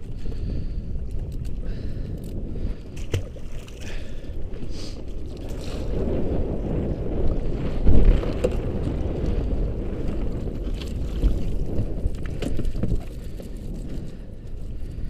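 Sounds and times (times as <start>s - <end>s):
water lapping around boat: 0.0s - 6.2s, 7.4s - 15.0s
wind rumbling on microphone: 0.0s - 15.0s.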